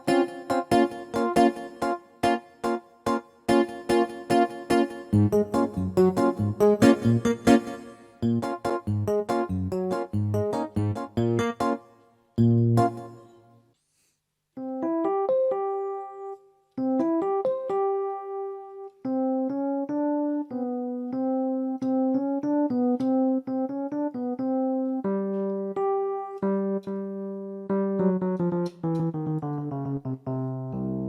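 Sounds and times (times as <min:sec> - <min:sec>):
electric piano melody: 0:00.0 - 0:13.4, 0:14.6 - 0:31.0.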